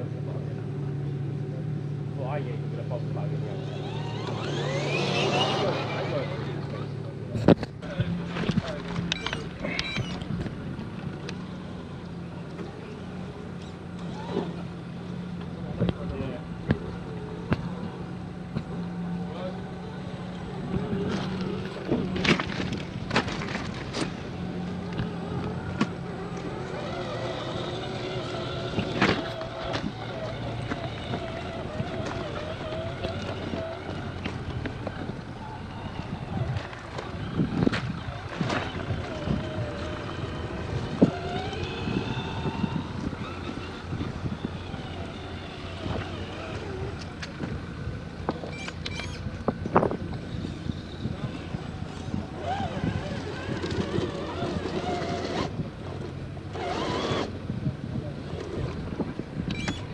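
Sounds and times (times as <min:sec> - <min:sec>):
electric motor whining: 0:03.4 - 0:07.0, 0:12.6 - 0:47.6, 0:48.2 - 0:59.9.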